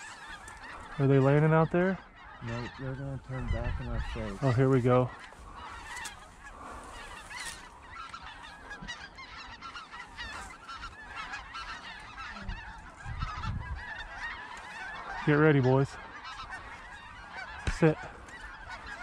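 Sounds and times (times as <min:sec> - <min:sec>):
flock of geese calling: 0:00.0 - 0:19.0.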